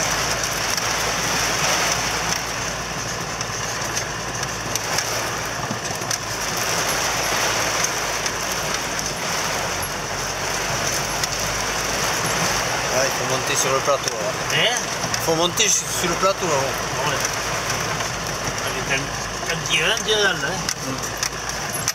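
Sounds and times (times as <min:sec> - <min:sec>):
car engine running: 0:00.0 - 0:21.9
hail and rain on car roof: 0:00.0 - 0:21.9.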